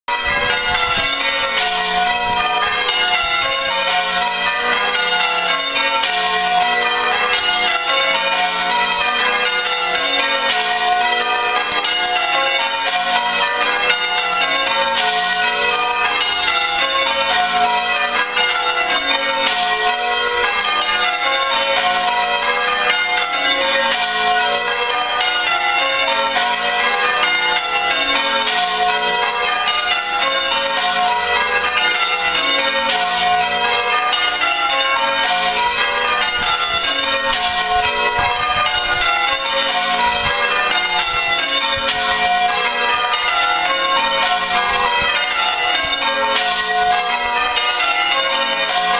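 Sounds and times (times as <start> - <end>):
church bells ringing: 0.0 - 48.9.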